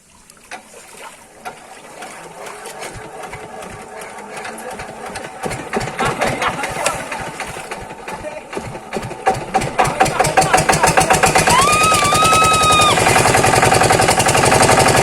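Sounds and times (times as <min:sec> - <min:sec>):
diesel pump engine knocking: 0:01.4 - 0:15.0.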